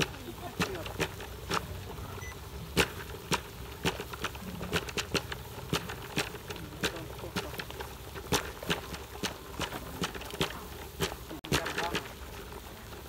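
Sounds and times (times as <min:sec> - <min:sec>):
steady hiss: 0:00.0 - 0:13.0
water boiling with pops and crackles: 0:00.0 - 0:13.0.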